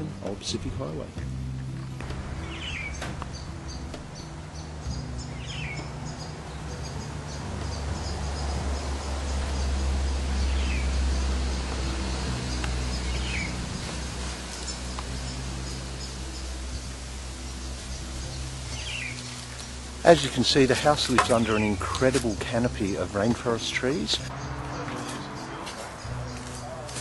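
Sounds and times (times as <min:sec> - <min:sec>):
steady low rumble: 0:00.6 - 0:24.6
high rhythmic insect chirping: 0:01.7 - 0:27.0.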